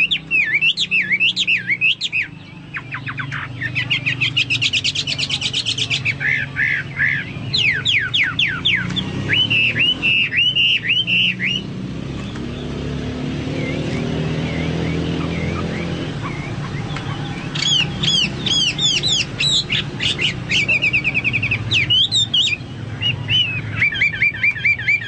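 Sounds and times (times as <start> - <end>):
bird singing varied song: 0.0 - 25.0.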